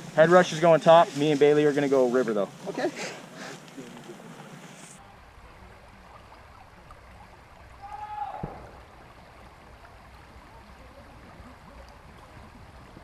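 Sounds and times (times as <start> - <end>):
creek water flowing over stones: 0.0 - 13.0.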